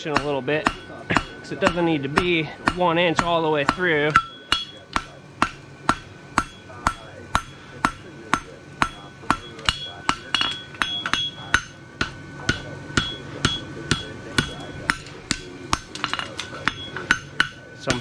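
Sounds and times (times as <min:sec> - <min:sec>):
hammer ringing on anvil: 0:00.0 - 0:18.0.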